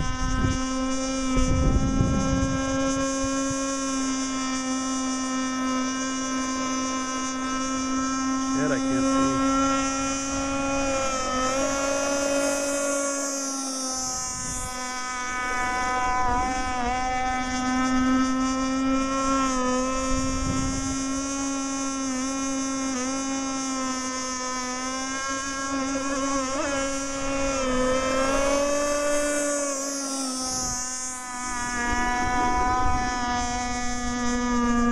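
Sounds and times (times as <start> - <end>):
small two-stroke engine buzzing: 0.0 - 34.9.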